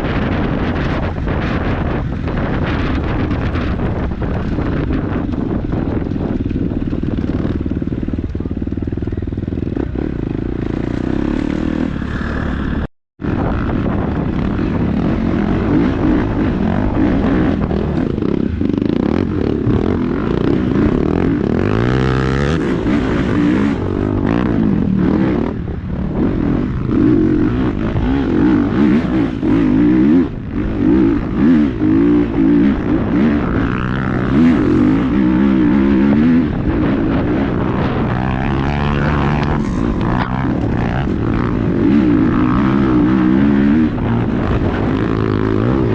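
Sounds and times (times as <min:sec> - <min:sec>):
dirt bike engine revving: 0:00.1 - 0:45.9.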